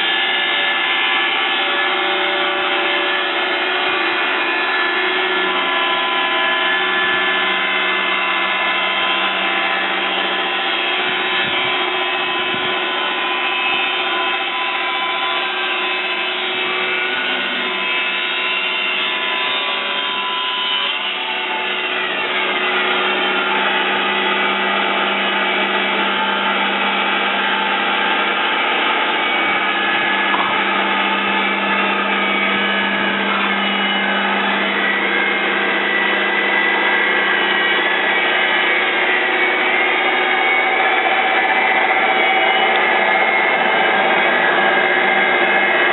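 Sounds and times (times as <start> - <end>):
band saw blade whining: 0.0 - 45.9.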